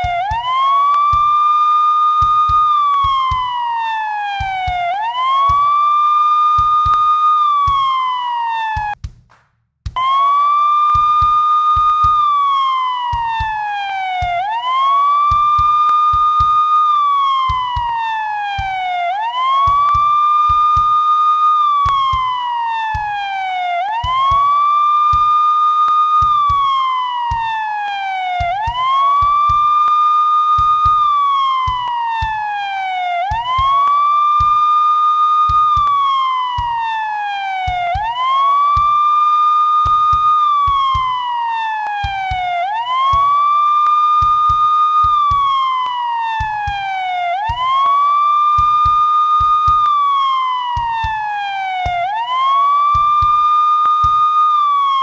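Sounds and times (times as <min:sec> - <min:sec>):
police siren wailing: 0:00.0 - 0:09.0, 0:10.0 - 0:55.0.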